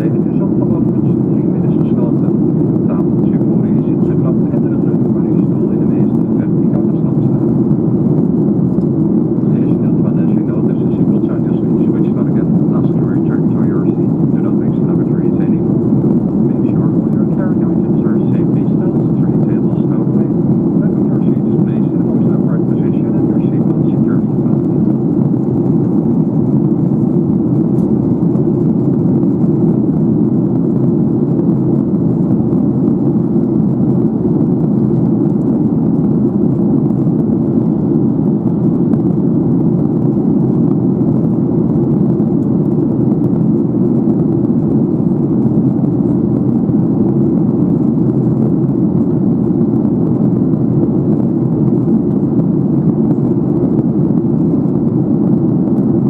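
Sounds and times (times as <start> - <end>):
airflow over fuselage: 0.0 - 56.0
airplane engines rumbling: 0.0 - 56.0.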